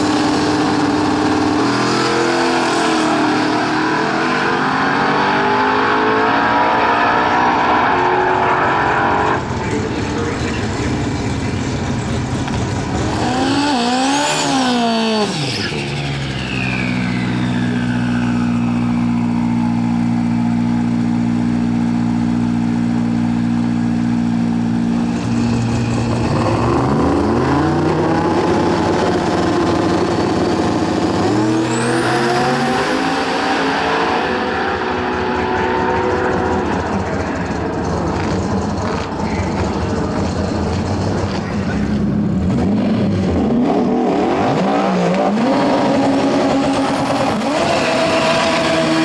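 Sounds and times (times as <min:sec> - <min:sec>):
drag race car engines revving: 0:00.0 - 0:49.0.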